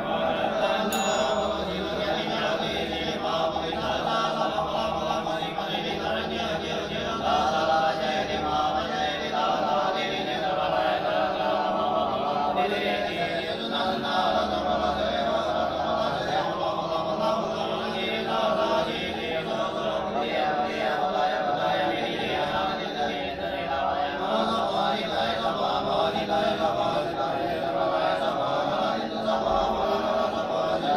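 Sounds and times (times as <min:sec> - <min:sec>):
monks chanting in unison: 0:00.0 - 0:30.9.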